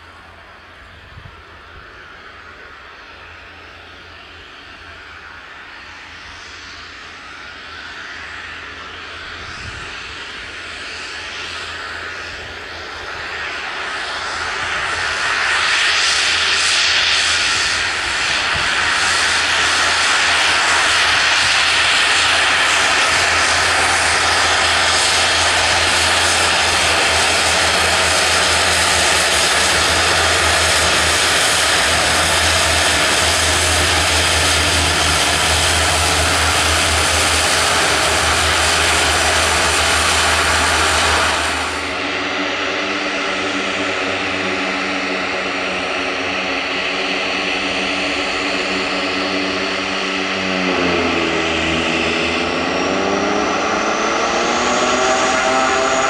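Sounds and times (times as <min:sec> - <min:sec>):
low propeller hum: 0:00.0 - 0:56.0
turboprop engines whining: 0:00.0 - 0:56.0.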